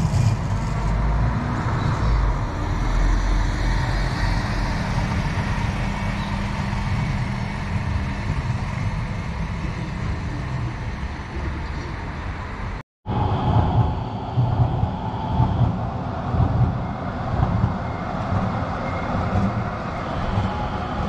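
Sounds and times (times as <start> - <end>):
large vehicle engine humming: 0.0 - 21.0.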